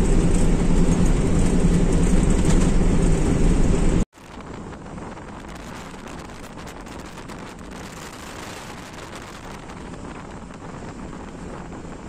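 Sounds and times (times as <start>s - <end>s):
truck road noise: 0.0s - 12.0s
wind rushing over microphone: 0.0s - 12.0s.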